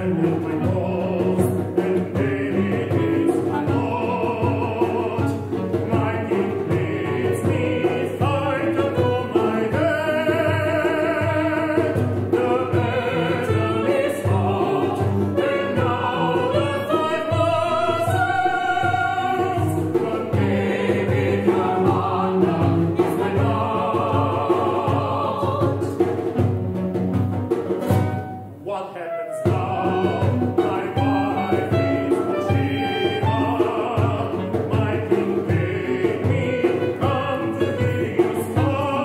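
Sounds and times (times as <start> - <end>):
opera singing with vibrato: 0.0 - 26.2, 28.2 - 39.0.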